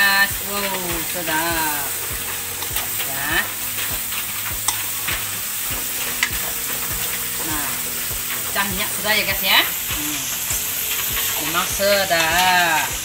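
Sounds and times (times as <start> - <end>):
metal spatula scraping a pan: 0.0 - 12.9
fish sizzling in a wok: 0.0 - 13.0.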